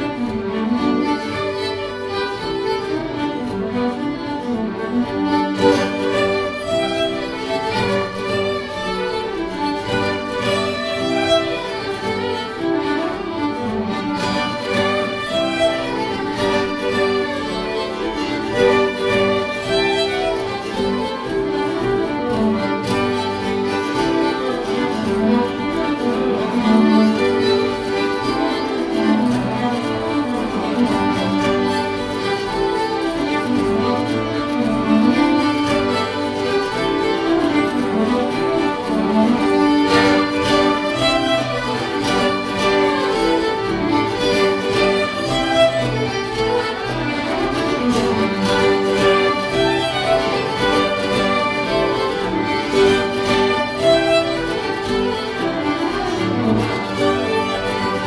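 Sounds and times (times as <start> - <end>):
acoustic guitar strumming: 0.0 - 58.0
fiddles bowing melody: 0.0 - 58.0.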